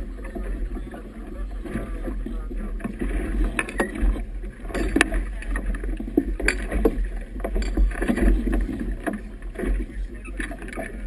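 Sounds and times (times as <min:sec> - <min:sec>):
water splashing against boat hull: 0:00.0 - 0:11.0.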